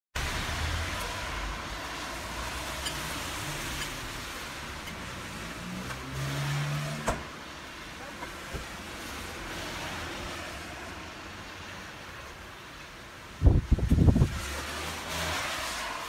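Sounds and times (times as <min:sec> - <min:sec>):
rain on a wet street: 0:00.2 - 0:16.0.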